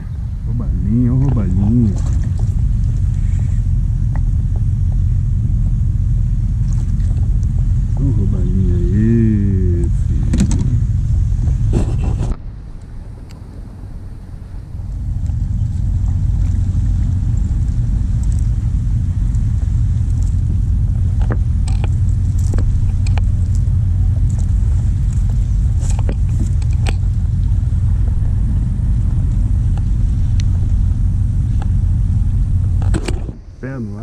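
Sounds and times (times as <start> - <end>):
kayak low rumble: 0.0 - 34.0
hull clicks and creaks: 1.2 - 9.0, 9.8 - 13.6, 14.8 - 33.4.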